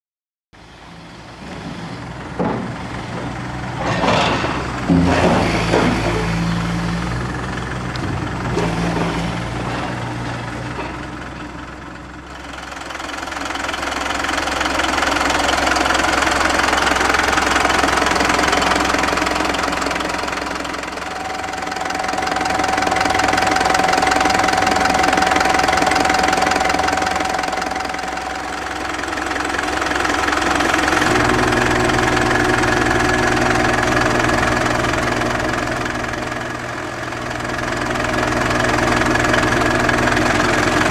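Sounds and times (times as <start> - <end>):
diesel engine idling: 0.6 - 40.9.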